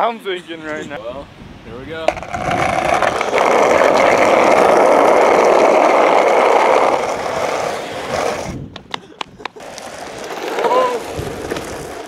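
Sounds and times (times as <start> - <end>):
skateboard wheels rolling on asphalt: 1.8 - 12.0.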